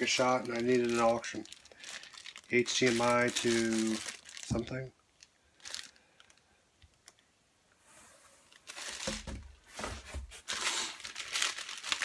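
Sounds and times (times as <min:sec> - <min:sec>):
plastic bags rustling: 0:00.0 - 0:06.4, 0:08.4 - 0:12.0.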